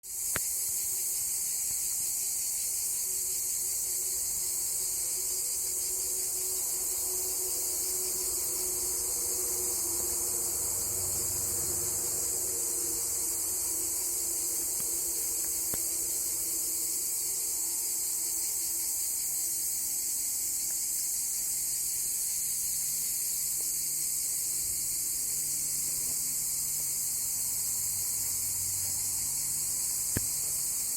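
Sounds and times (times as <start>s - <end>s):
insect chorus: 0.0s - 30.9s.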